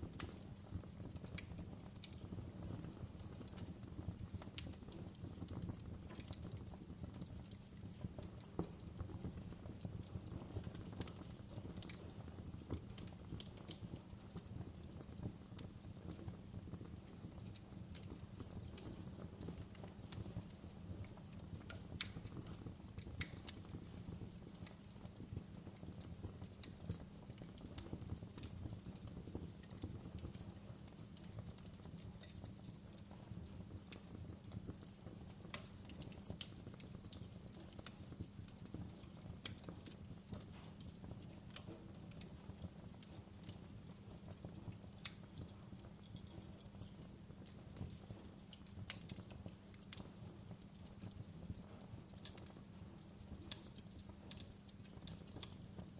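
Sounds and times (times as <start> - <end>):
low fire rumble: 0.0 - 55.9
wood fire crackling: 0.0 - 55.9.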